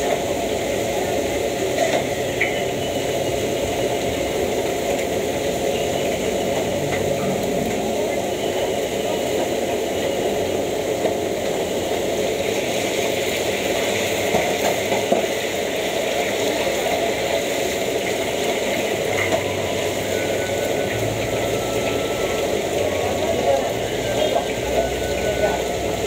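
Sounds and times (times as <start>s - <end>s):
food sizzling in hot oil: 0.0s - 26.0s
gas burner rushing: 0.0s - 26.0s.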